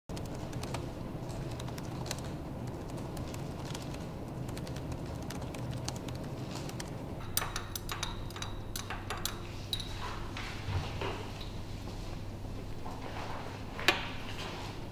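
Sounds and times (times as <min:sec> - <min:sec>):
steady low hum: 0:00.1 - 0:14.9.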